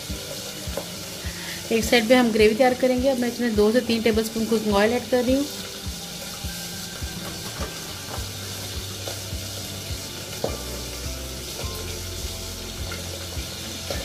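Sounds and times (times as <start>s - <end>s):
cooking oil hissing: 0.0s - 14.0s.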